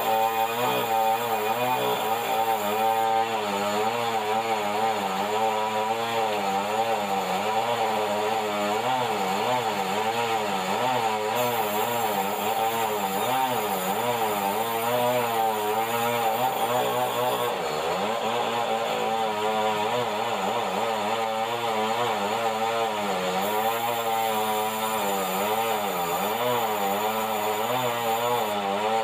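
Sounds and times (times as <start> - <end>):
band saw running: 0.0 - 29.0.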